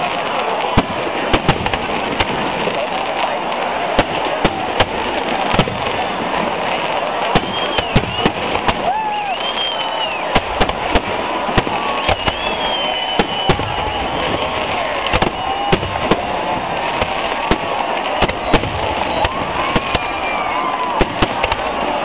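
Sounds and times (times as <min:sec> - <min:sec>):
fireworks bangs: 0:00.0 - 0:22.0
fireworks whistles: 0:00.0 - 0:22.0.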